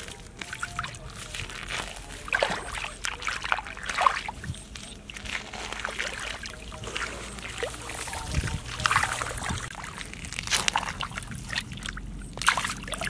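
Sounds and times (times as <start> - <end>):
muddy water sloshing and splashing: 0.0 - 13.0
water dripping and trickling: 0.0 - 13.0.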